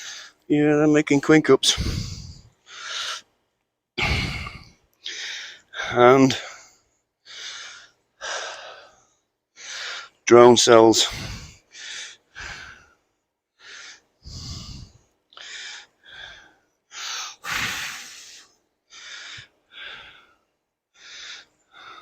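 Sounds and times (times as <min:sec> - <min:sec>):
person breathing close to microphone: 0:00.0 - 0:00.4, 0:01.6 - 0:03.3, 0:04.0 - 0:10.2, 0:11.0 - 0:22.0.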